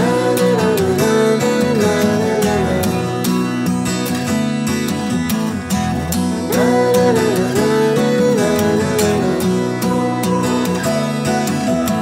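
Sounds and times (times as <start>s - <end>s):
acoustic guitar strumming: 0.0s - 12.0s
guitar melody line: 0.0s - 12.0s.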